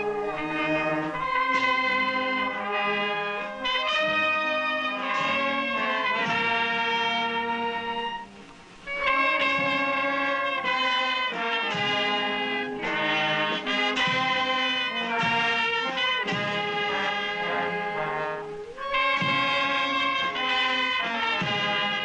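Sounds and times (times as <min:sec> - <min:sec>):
wind band playing a melody: 0:00.0 - 0:22.0.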